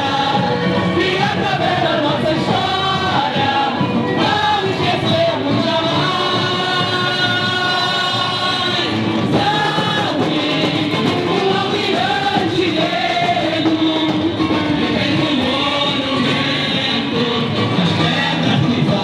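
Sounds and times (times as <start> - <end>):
many voices singing together: 0.0 - 19.0
street band playing: 0.0 - 19.0.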